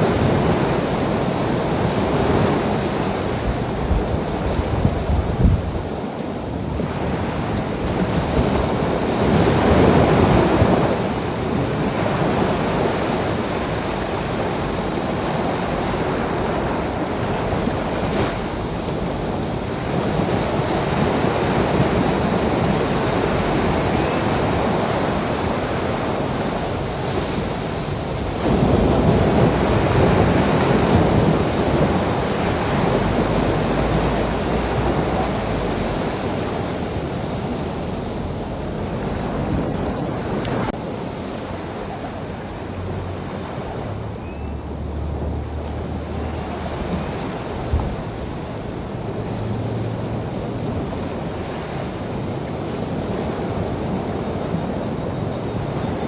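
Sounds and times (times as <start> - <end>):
sea waves breaking on shore: 0.0 - 56.0
wind noise on microphone: 0.0 - 56.0.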